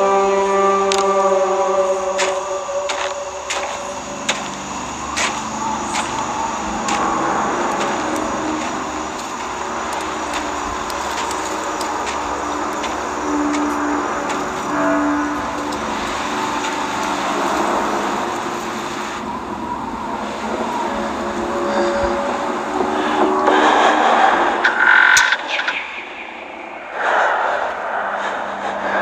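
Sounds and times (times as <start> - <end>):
droning chord: 0.0 - 26.9
dark noisy ambience: 0.0 - 29.0.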